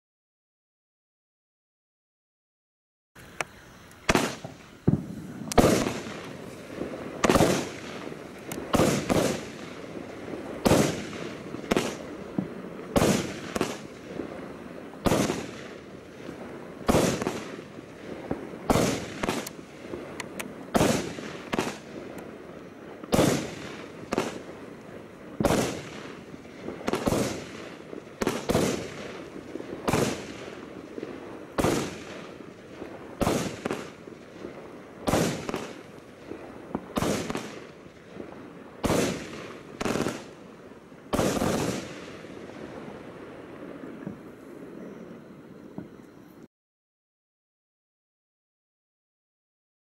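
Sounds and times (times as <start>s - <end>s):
fireworks bangs with echo: 4.1s - 44.8s.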